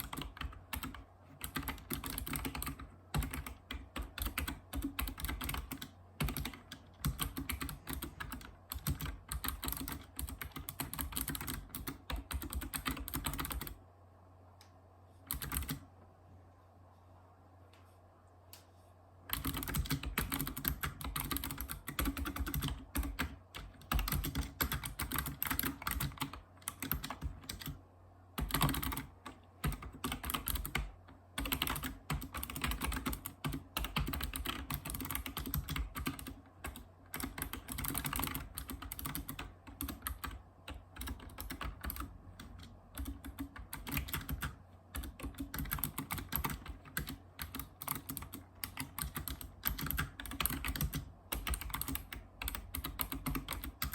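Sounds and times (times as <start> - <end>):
keyboard typing clicks: 0.0 - 13.8, 19.3 - 27.8, 28.4 - 53.9.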